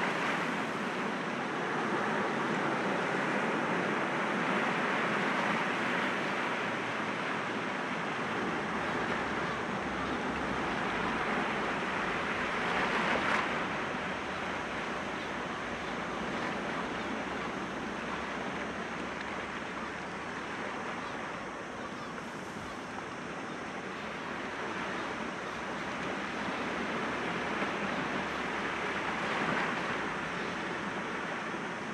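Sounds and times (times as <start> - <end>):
sea waves washing on rocks: 0.0 - 31.9.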